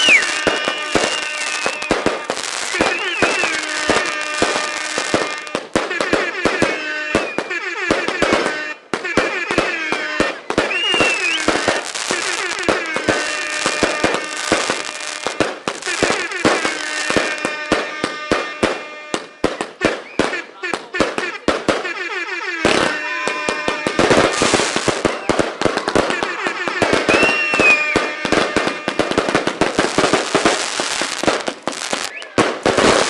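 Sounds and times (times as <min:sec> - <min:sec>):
fireworks bangs and crackles: 0:00.0 - 0:33.0
fireworks whistling: 0:00.0 - 0:33.0.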